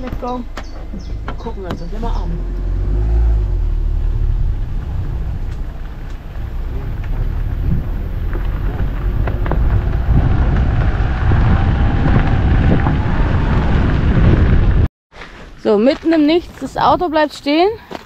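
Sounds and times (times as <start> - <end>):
car road rumble: 0.0 - 14.9.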